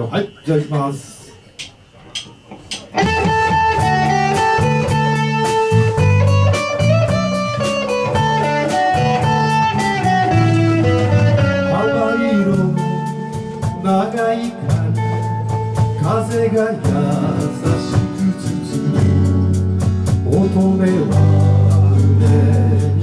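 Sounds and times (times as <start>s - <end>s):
drum kit steady beat: 1.5s - 23.0s
acoustic guitar: 2.7s - 23.0s
electric guitar melody: 2.9s - 23.0s
electric bass: 3.0s - 23.0s.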